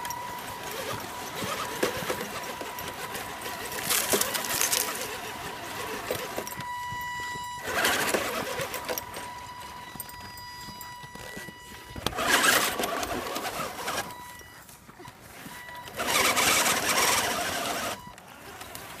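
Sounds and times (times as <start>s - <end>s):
electric motor whining: 0.0s - 14.4s, 15.0s - 19.0s
wheels scrabbling over snow: 0.0s - 19.0s.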